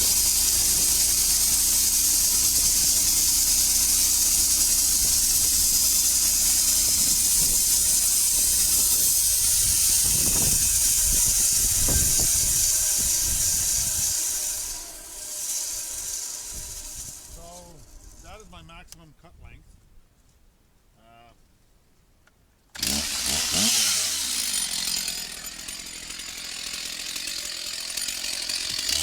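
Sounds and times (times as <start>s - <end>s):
sawmill cutting log: 0.0s - 18.6s, 22.8s - 29.0s.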